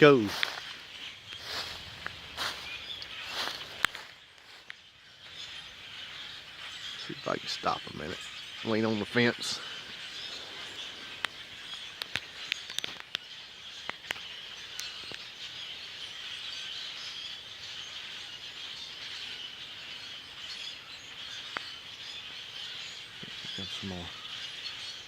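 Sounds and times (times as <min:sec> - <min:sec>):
flock of blackbirds chattering: 0:00.0 - 0:25.0
sharp bird chips: 0:00.0 - 0:25.0.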